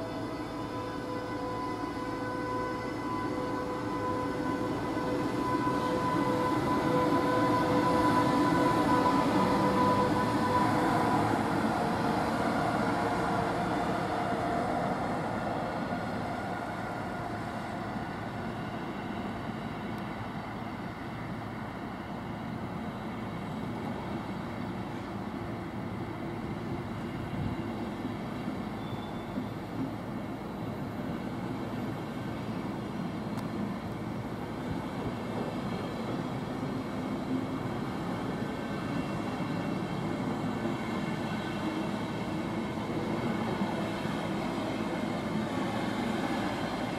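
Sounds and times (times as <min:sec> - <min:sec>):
electric locomotive whine: 0:00.0 - 0:46.9
train coaches rumbling over rails: 0:00.0 - 0:46.9.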